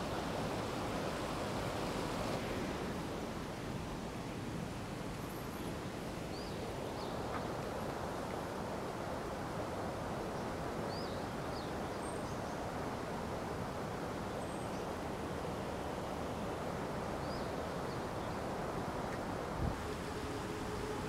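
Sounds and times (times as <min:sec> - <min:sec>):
river water rushing over weir: 0:00.0 - 0:05.2, 0:05.8 - 0:21.0.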